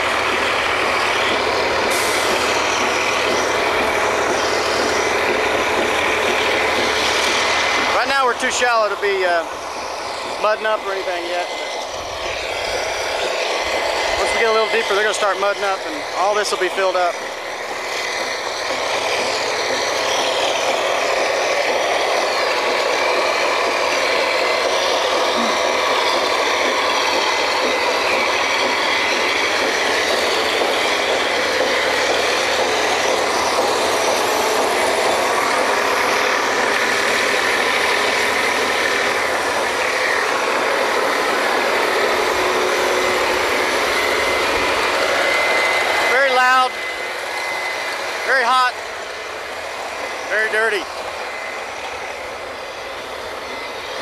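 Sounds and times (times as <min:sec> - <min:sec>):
drilling rig machinery: 0:00.0 - 0:54.0.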